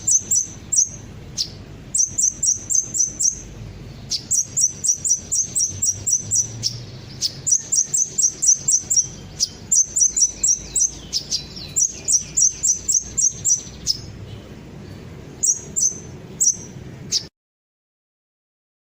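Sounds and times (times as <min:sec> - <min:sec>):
bird chirping rapidly: 0:00.0 - 0:17.3.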